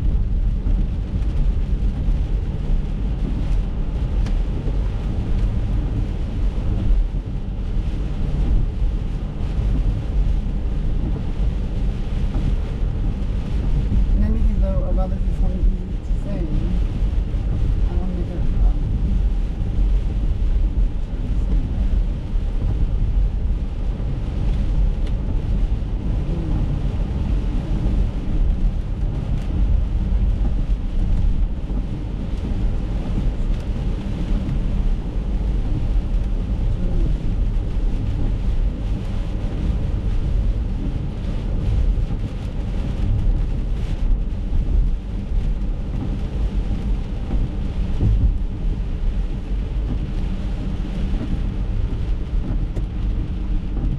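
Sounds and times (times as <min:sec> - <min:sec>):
rain on windscreen: 0:00.0 - 0:53.9
road rumble inside car: 0:00.0 - 0:53.9.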